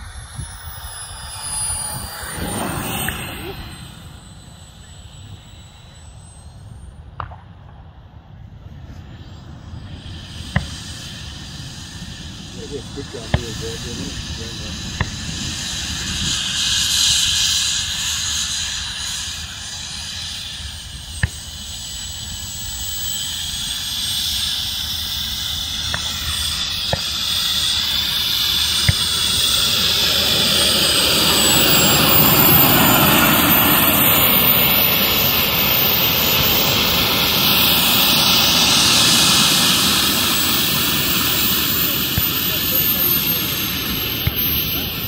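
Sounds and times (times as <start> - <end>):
model jet turbine whine: 0.0 - 45.0.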